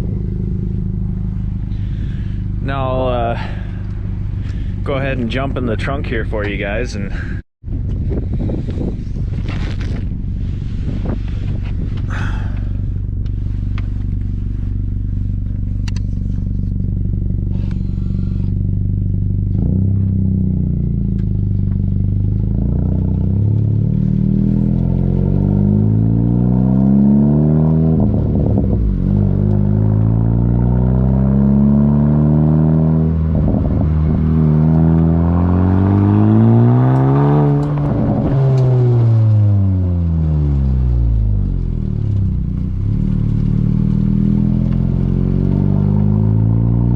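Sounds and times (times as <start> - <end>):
car engine revving: 0.0 - 7.0, 9.0 - 46.9.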